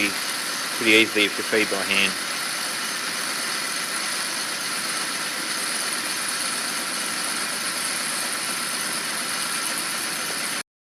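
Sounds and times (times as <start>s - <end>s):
metal lathe running: 0.0s - 10.6s.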